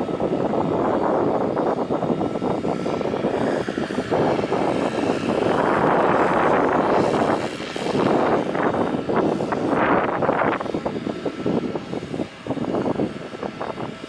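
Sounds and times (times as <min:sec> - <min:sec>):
jet airliner engine: 0:00.0 - 0:14.0
wind rumbling on microphone: 0:00.0 - 0:14.0.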